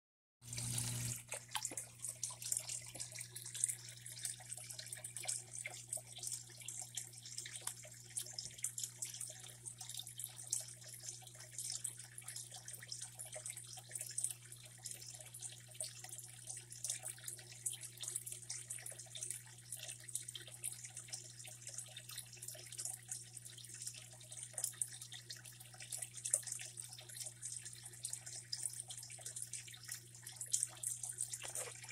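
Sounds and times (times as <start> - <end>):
aquarium filter water splashing: 0.4 - 31.9
filter pump hum: 0.4 - 31.9.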